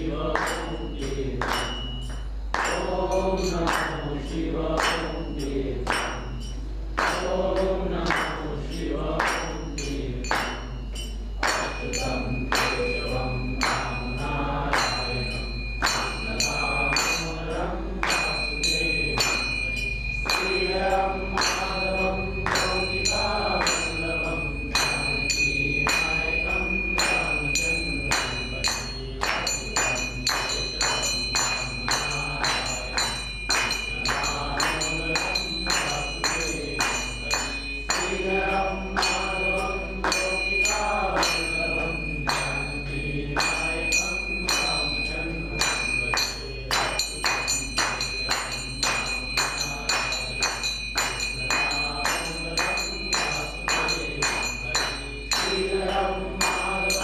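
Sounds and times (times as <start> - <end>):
person singing devotional song: 0.0 - 1.8, 2.5 - 57.0
metal hand cymbals ringing: 0.0 - 57.0.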